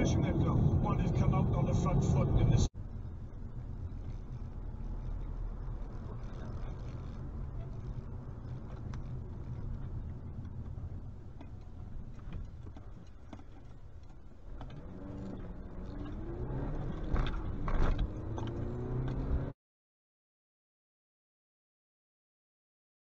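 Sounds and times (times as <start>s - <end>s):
car engine accelerating: 0.0s - 19.6s
road noise inside car: 0.0s - 19.6s.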